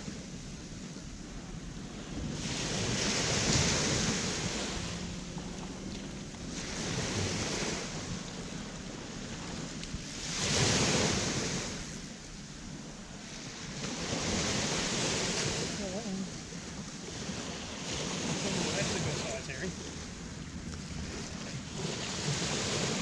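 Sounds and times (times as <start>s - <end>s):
small waves washing up beach: 0.0s - 23.0s.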